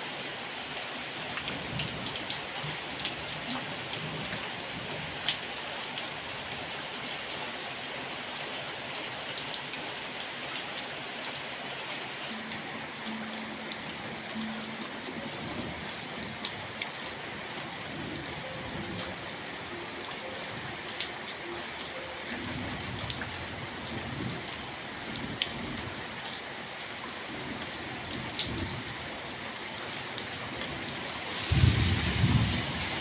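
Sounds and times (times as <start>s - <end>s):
rain falling on puddles: 0.0s - 33.0s.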